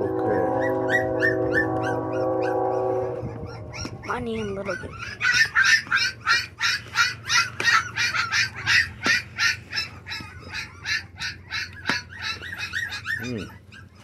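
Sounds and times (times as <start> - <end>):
puppies squealing: 0.3 - 14.0.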